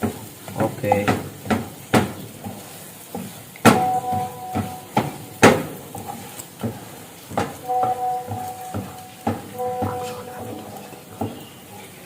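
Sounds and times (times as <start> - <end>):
metal utensil clanking on frying pan: 0.0 - 11.6.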